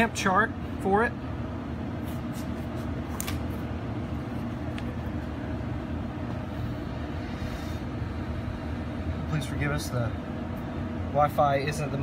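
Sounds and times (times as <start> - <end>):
machinery rumbling and humming: 0.0 - 12.0.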